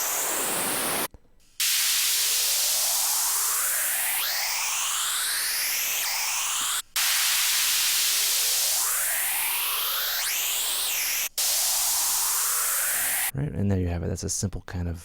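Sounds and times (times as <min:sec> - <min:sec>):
white noise phaser sweep: 0:00.0 - 0:13.3.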